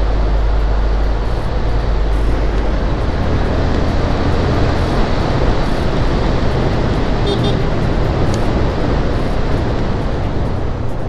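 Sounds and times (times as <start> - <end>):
motorcycle engine hum: 0.0 - 11.0
wind rushing over microphone: 0.0 - 11.0.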